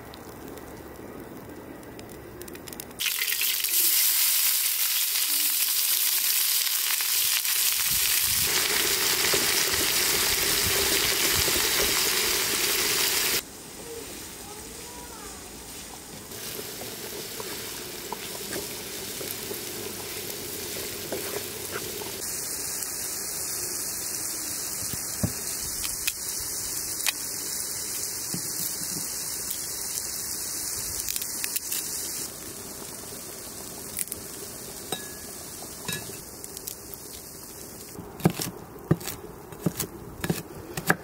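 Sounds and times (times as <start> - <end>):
onions sizzling in a pan: 3.0 - 38.5.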